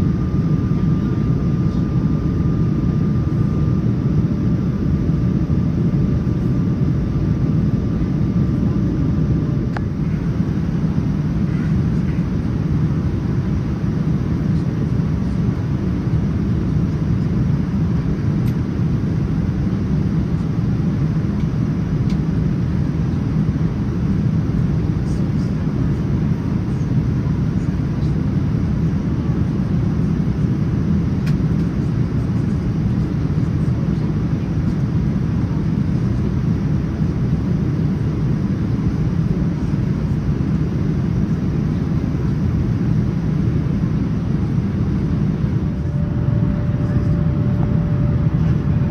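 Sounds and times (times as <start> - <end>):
airliner cabin engine roar: 0.0 - 48.9.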